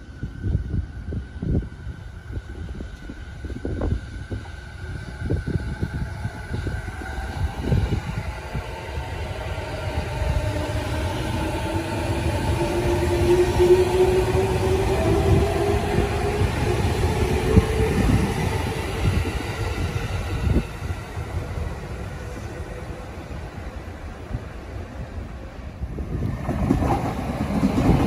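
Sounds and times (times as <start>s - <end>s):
wheels rumbling on rails: 0.0s - 28.0s.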